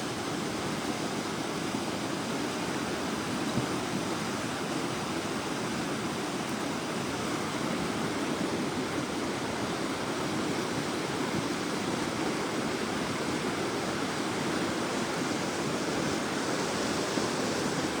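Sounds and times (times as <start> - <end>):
floodwater rushing down river: 0.0 - 18.0.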